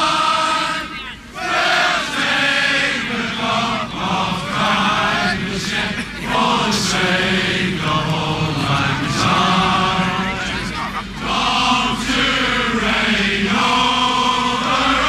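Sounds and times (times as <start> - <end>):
crowd of men singing in unison: 0.0 - 15.0.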